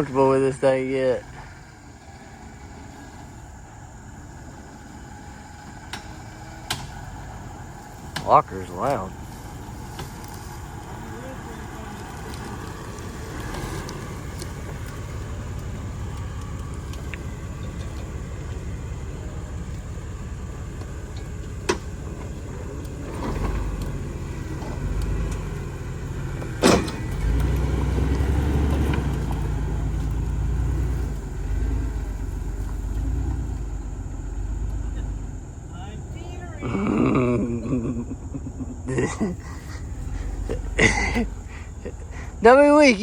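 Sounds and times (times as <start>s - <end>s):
off-road vehicle engine running: 0.0s - 43.0s.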